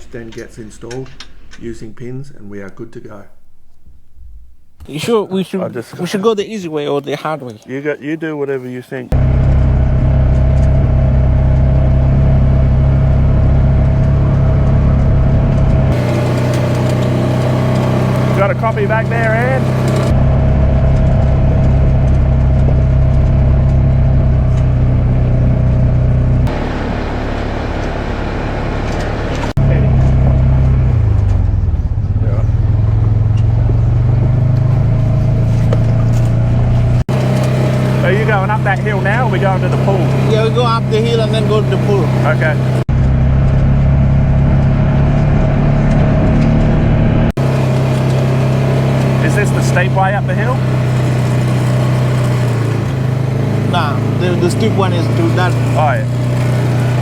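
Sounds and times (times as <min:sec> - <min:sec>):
engine running with whine: 0:00.0 - 0:02.0, 0:09.1 - 0:57.0.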